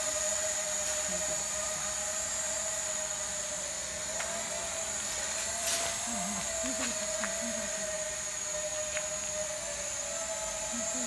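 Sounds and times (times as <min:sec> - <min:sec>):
toy quadcopter buzzing: 0:00.0 - 0:11.0.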